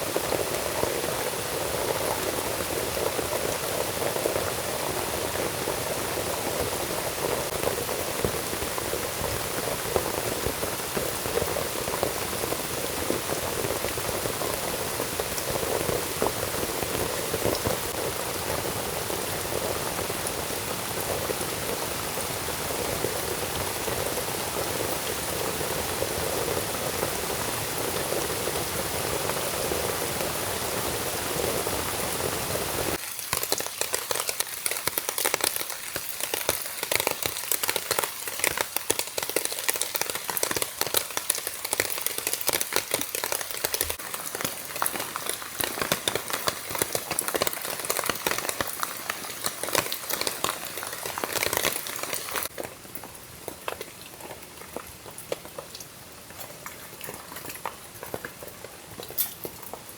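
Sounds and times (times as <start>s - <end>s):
crackle of raindrops: 0.0s - 59.9s
rain falling: 0.0s - 59.9s.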